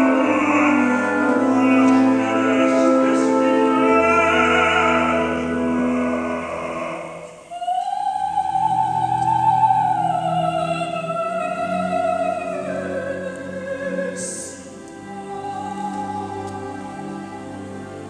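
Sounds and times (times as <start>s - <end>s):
operatic soprano singing: 0.0s - 18.0s
orchestral strings: 0.0s - 18.0s.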